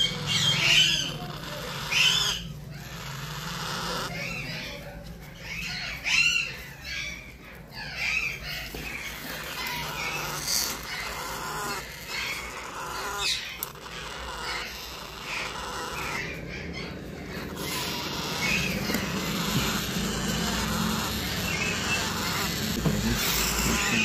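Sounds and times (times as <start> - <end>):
parrot chicks squawking: 0.0 - 24.0.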